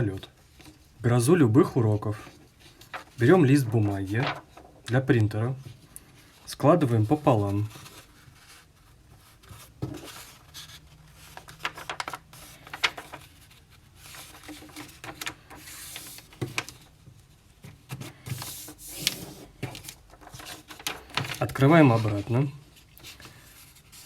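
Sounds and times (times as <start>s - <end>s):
paper rustling and folding: 0.0s - 24.0s
paper crackles: 2.2s - 5.0s, 5.6s - 16.9s, 17.6s - 24.0s.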